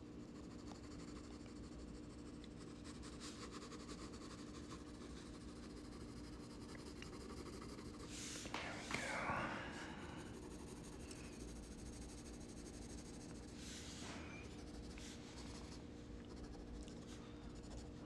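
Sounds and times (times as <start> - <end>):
pencil scratching on paper: 0.0 - 8.6, 10.2 - 18.0.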